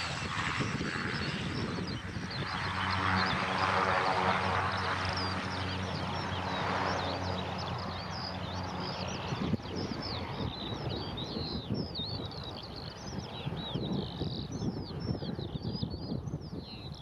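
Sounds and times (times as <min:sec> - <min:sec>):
birds chirping and twittering: 0:00.0 - 0:17.0
wind buffeting microphone: 0:00.0 - 0:17.0.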